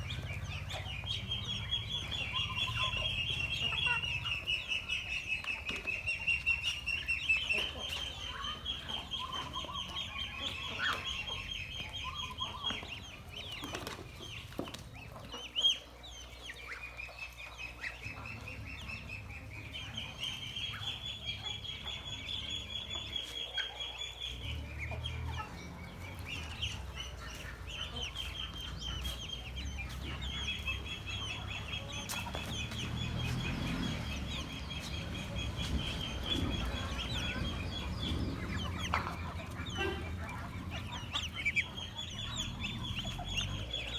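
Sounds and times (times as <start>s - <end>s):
ducklings peeping: 0.0s - 43.9s.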